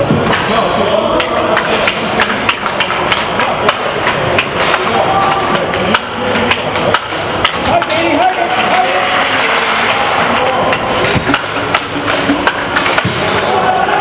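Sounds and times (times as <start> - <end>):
chatter of voices: 0.0 - 12.1, 13.0 - 14.0
hockey sticks and puck clacking: 0.0 - 14.0
puck thudding against boards: 1.2 - 13.9.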